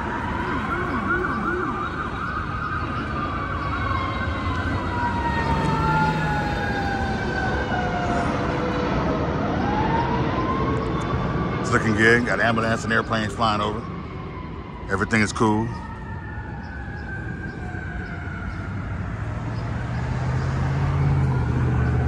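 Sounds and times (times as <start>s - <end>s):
ambulance siren: 0.0s - 22.0s
street traffic: 0.0s - 22.0s.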